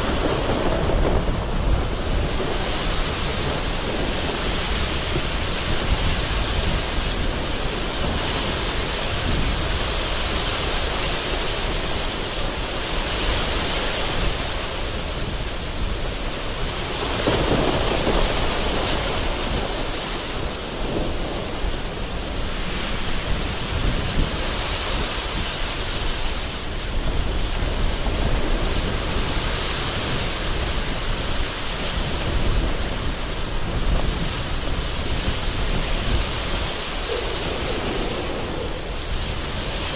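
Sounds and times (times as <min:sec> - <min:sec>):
gusting wind: 0:00.0 - 0:39.9
heavy rain: 0:00.0 - 0:39.9
thunder rumbling: 0:00.0 - 0:39.9.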